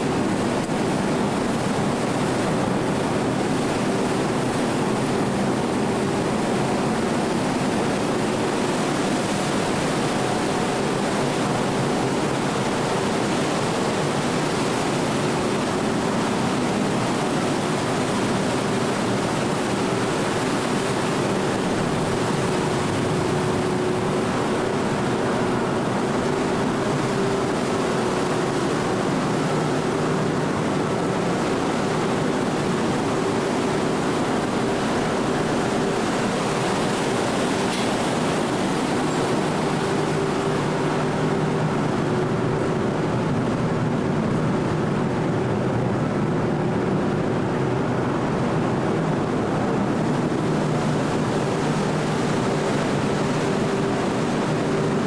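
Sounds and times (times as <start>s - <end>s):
faint steady machinery hum: 0.0s - 55.0s
water rushing along hull: 0.0s - 55.0s.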